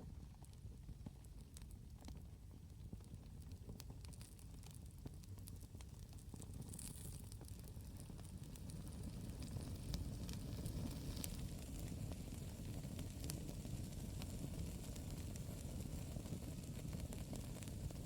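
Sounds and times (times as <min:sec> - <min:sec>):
campfire crackles and pops: 0:01.0 - 0:18.0.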